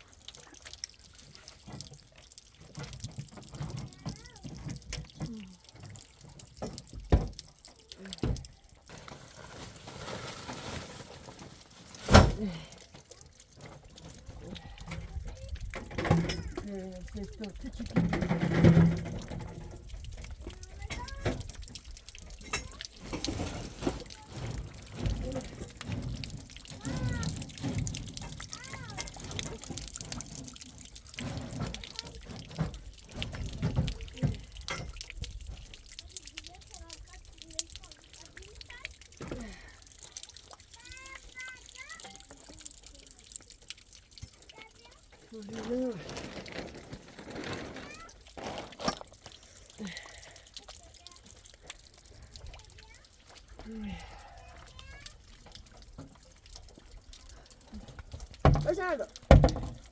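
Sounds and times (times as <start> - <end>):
rush of water: 0.0 - 59.9
water pouring and dripping: 0.0 - 59.9.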